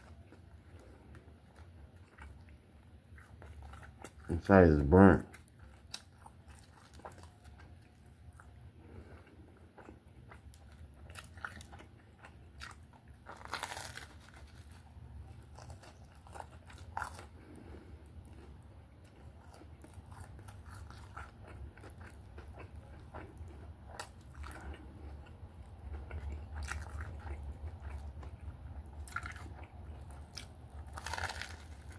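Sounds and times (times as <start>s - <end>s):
chewing crunchy toasted sandwich: 0.0s - 31.9s
steady low hum: 0.0s - 31.9s.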